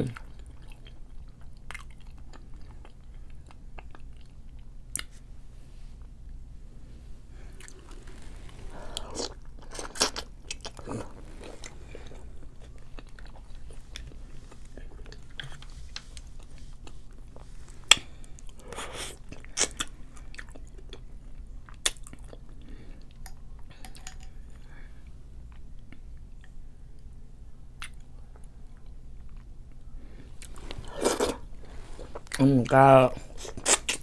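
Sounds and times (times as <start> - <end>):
chewing and wet mouth sounds: 0.1 - 5.3, 7.4 - 34.0.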